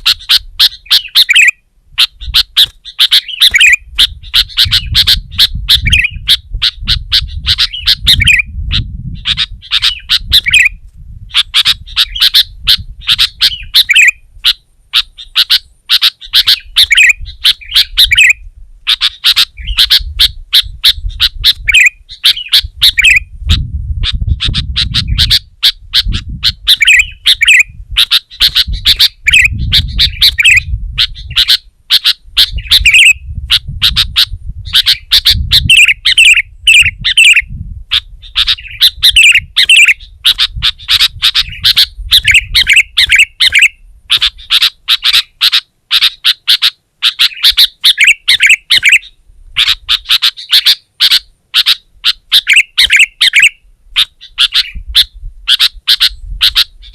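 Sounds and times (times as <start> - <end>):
bird calling harsh notes: 0.0 - 56.9.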